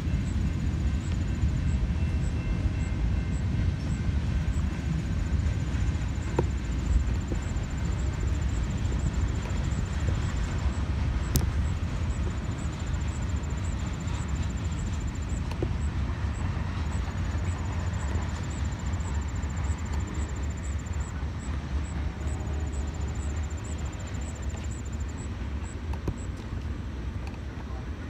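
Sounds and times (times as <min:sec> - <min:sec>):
train boxcars rumbling past: 0:00.0 - 0:28.0.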